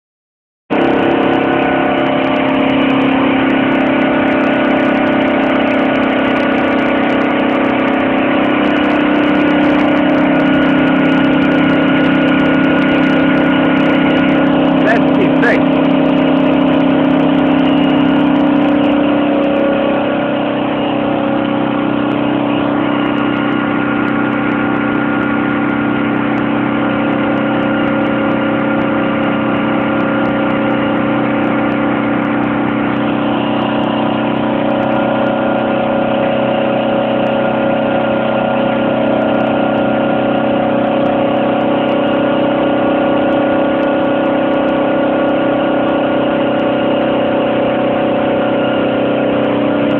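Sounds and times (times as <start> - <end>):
moped engine running: 0.7 - 49.9.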